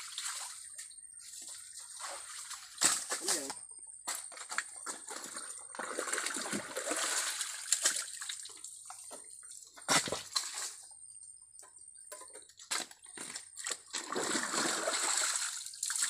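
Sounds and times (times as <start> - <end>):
muddy water sloshing and splashing: 0.0 - 11.0, 12.1 - 16.0.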